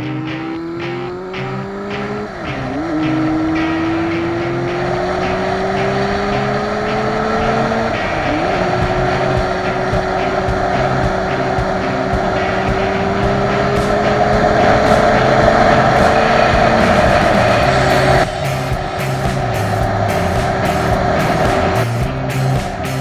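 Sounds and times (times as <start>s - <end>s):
motorcycle engine accelerating: 0.0s - 23.0s
wind noise: 0.0s - 23.0s.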